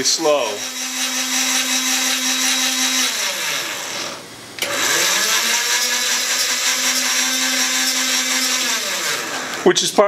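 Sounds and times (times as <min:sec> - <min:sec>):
electric motor whining: 0:00.4 - 0:09.7.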